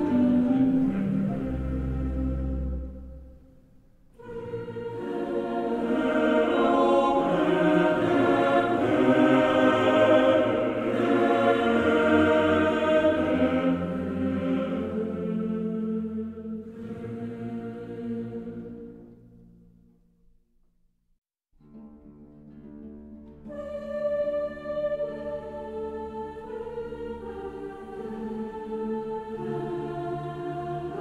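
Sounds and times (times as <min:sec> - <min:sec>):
choir-like voices sustained chords: 0:00.0 - 0:03.5, 0:04.2 - 0:19.5, 0:23.4 - 0:31.0.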